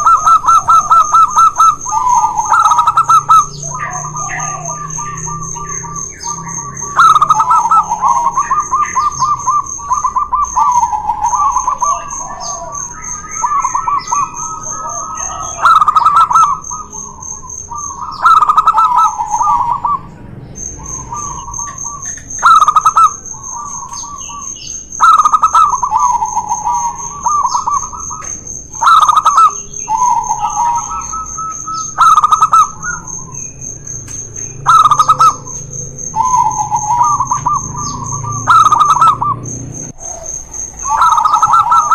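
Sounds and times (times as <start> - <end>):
doves cooing: 0.0 - 41.9.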